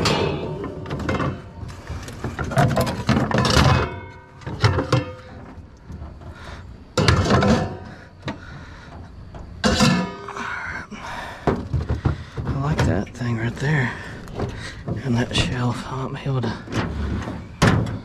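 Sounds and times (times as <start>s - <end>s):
items thumping in a dumpster: 0.0s - 10.5s, 11.2s - 18.0s.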